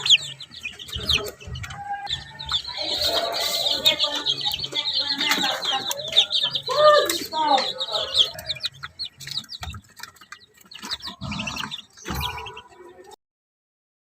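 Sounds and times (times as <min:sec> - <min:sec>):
chicks peeping: 0:00.0 - 0:13.2.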